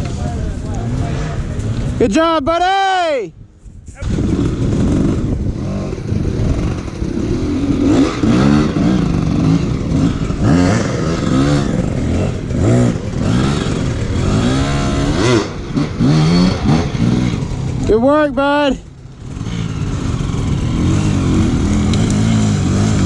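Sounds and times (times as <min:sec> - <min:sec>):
dirt bike engine revving: 0:00.0 - 0:02.1, 0:04.0 - 0:23.0.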